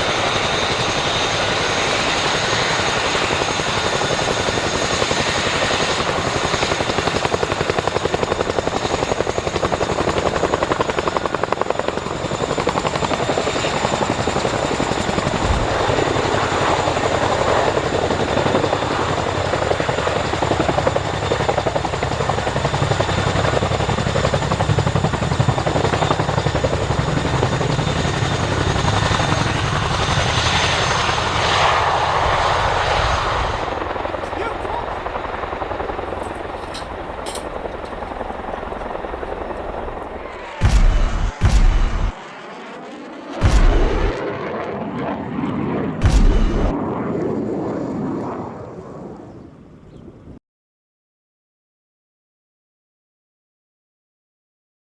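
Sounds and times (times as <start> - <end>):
helicopter rotor chop: 0.0 - 48.2
turbine engine whine: 0.0 - 50.3.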